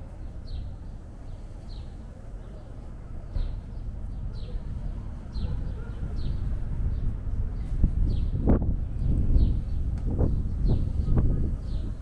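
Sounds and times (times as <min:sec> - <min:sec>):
songbird chirping: 0:00.0 - 0:11.0
low street rumble: 0:00.0 - 0:12.0.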